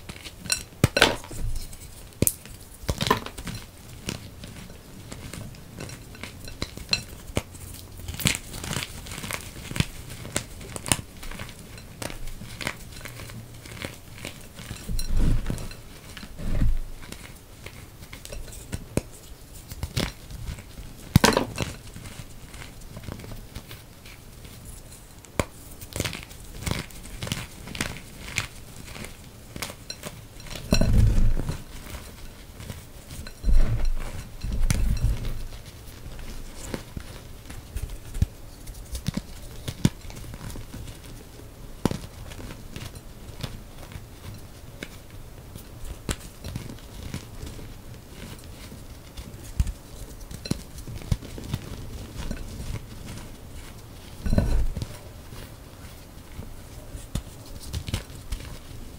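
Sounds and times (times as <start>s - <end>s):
chalk crunching and crumbling: 0.0s - 58.9s.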